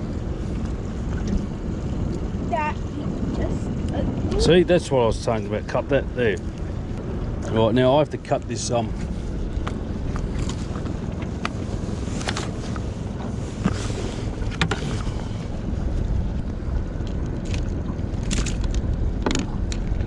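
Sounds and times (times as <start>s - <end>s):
water rumbling around boat: 0.0s - 20.0s
wind buffeting microphone: 0.0s - 20.0s.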